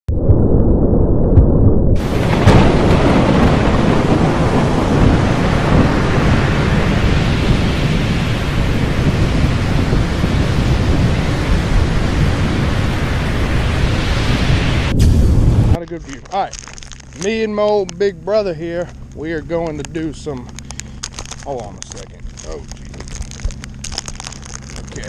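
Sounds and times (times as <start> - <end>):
loud steady rumbling: 0.1 - 25.0.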